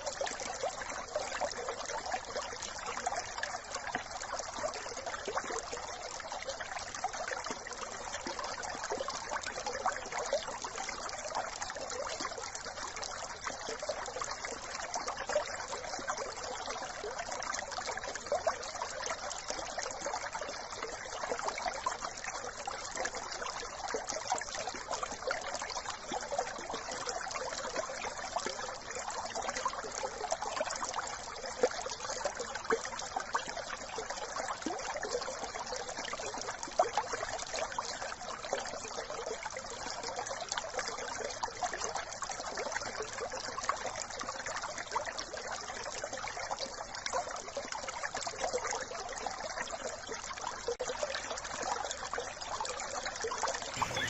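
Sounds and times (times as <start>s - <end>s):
brook trickling over stones: 0.0s - 54.0s.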